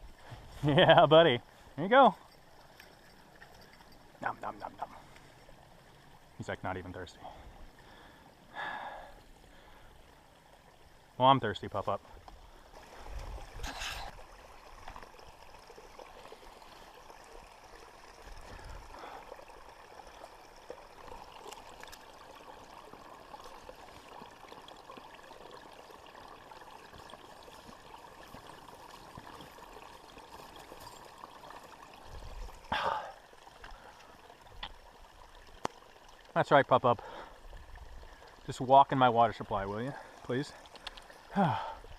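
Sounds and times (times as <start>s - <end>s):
mountain stream flowing: 0.0s - 41.9s.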